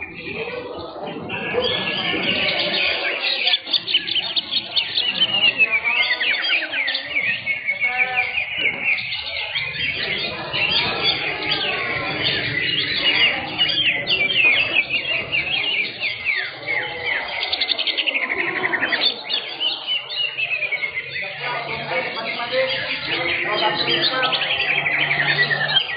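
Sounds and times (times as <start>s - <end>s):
birds singing chirps and trills: 0.0s - 25.9s.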